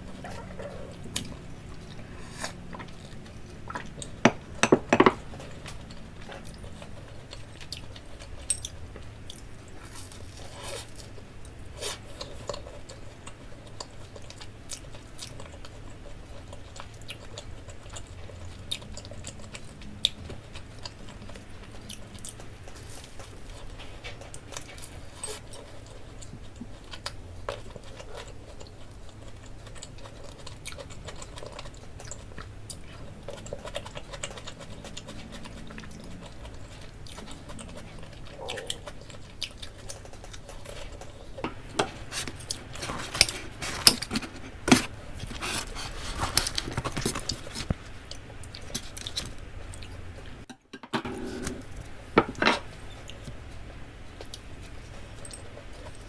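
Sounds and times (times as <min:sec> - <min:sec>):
person chewing food: 0:00.0 - 0:50.5.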